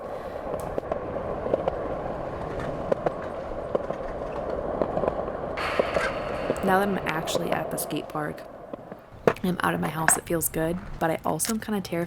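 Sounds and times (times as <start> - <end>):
skate wheels rolling on pavement: 0.0 - 11.0.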